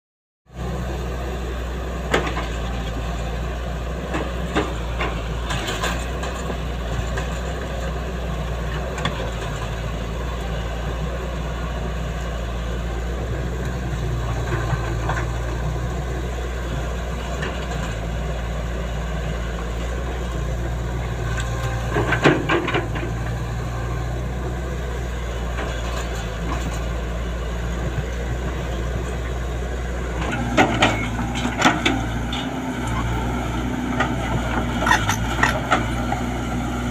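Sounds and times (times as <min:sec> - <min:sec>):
excavator diesel engine running: 0:00.5 - 0:36.9.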